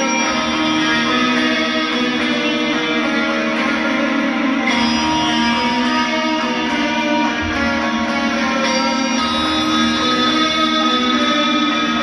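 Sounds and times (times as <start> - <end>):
electric guitar sustained notes: 0.0 - 12.0
live heavy metal music: 0.0 - 12.0.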